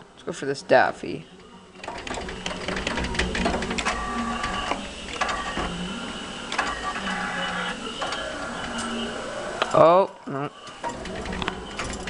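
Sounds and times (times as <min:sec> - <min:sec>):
claw machine motors whirring: 0:01.3 - 0:09.9, 0:10.5 - 0:12.0
motor clicks: 0:01.4 - 0:09.8, 0:10.6 - 0:12.0.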